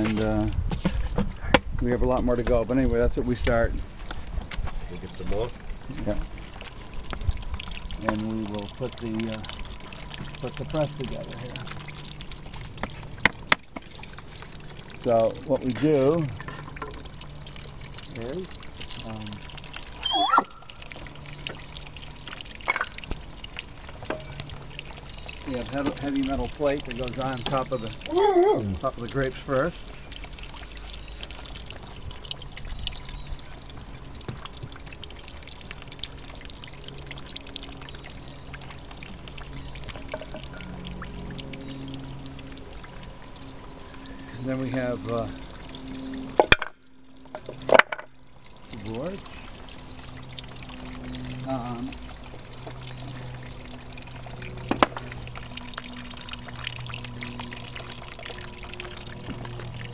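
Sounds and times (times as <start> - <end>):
juice trickling: 0.0 - 59.9.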